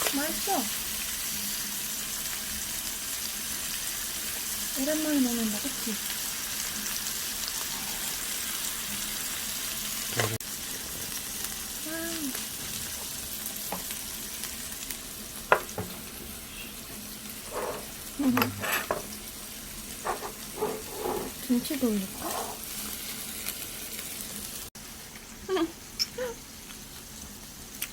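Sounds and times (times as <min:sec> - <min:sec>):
meat sizzling on a grill: 0:00.0 - 0:27.9.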